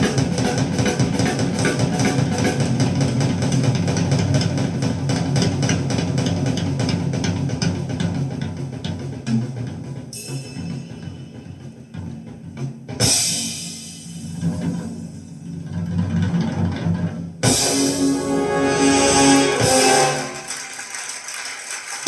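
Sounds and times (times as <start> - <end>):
jazz music with drum kit: 0.0 - 20.9.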